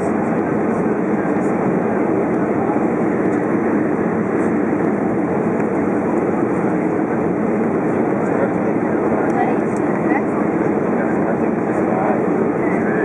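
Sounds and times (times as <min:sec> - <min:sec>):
jet engine and airflow cabin noise: 0:00.0 - 0:13.0.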